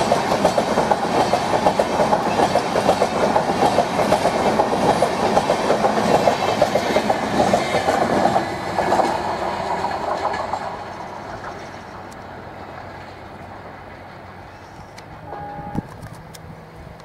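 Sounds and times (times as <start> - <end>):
train wheels clattering over rails: 0.0 - 14.4.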